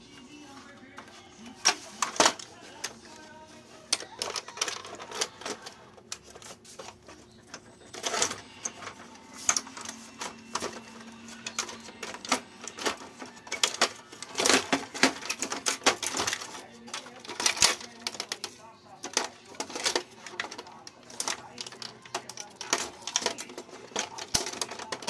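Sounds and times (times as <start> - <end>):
plastic printer parts clicking: 0.6 - 25.0.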